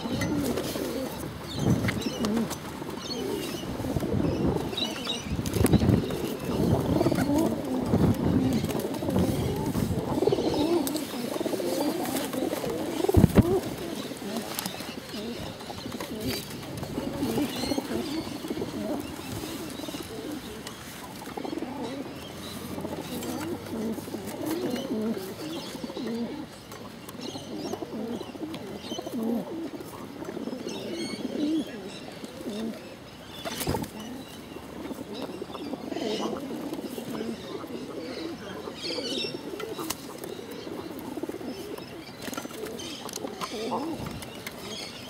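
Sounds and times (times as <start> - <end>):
pigeons cooing: 0.0 - 45.0.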